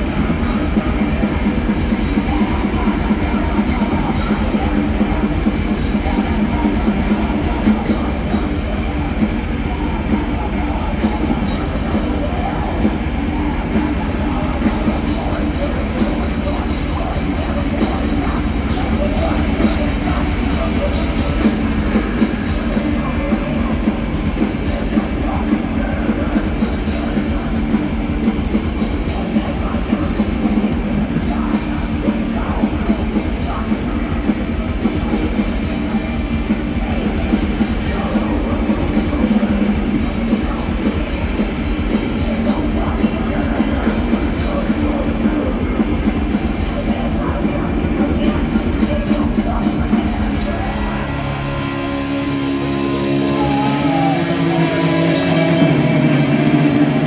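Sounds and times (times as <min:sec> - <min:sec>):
distorted electric guitars: 0:00.0 - 0:57.0
pounding drum kit: 0:00.0 - 0:57.0
vocals: 0:00.0 - 0:57.0.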